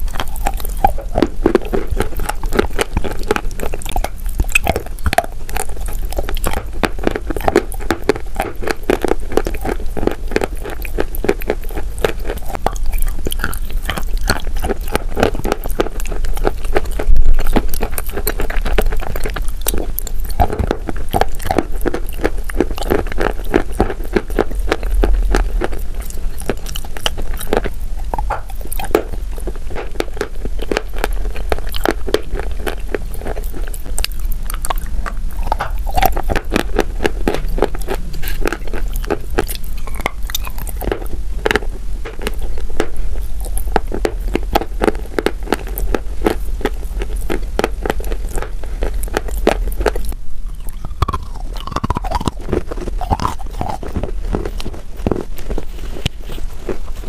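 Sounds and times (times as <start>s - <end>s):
person chewing crunchy chalk: 0.0s - 57.0s.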